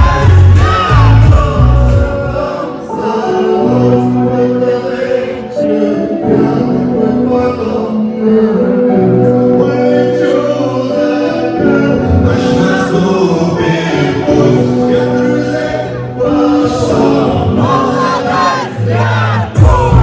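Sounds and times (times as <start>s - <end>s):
voices singing together: 0.0s - 20.0s.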